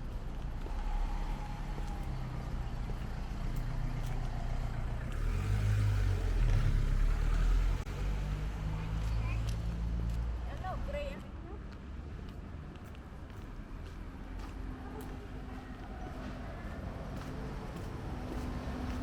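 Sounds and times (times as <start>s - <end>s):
vehicle engine passing: 0.0s - 10.9s, 14.1s - 19.0s.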